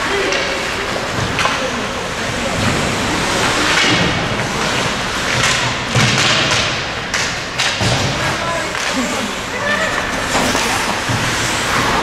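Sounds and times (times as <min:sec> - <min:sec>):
skates scraping ice: 0:00.0 - 0:12.0.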